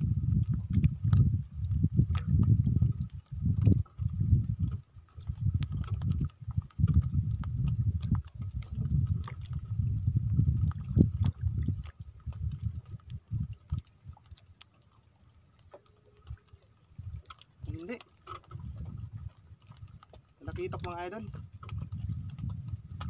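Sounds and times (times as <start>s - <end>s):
gusting wind: 0.0s - 14.3s, 17.0s - 23.0s
water noise: 0.0s - 23.0s.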